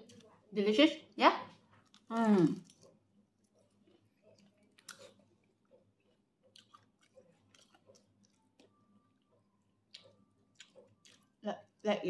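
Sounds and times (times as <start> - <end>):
crunchy chewing: 1.7 - 11.9.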